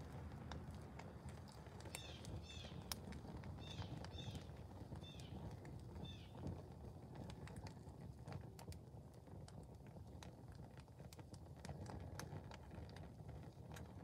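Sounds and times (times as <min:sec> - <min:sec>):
burning plastic ticking and popping: 0:00.0 - 0:14.0
low steady rumble: 0:00.0 - 0:14.0.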